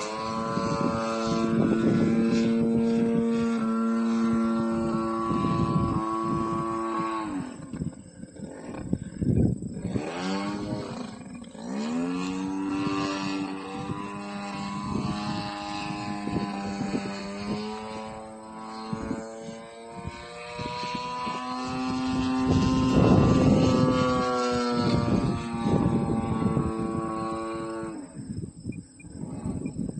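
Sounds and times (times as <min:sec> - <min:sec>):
model plane engine running: 0:00.0 - 0:28.4.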